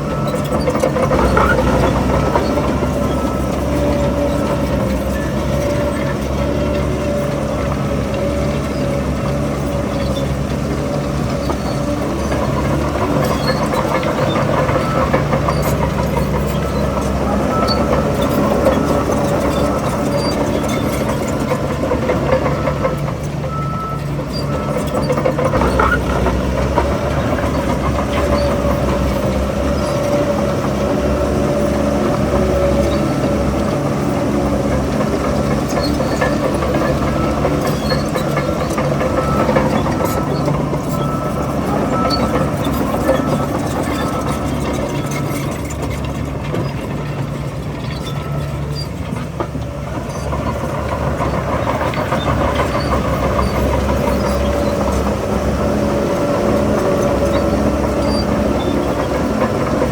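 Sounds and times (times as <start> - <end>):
heavy diesel machinery engine hum: 0.0 - 59.9.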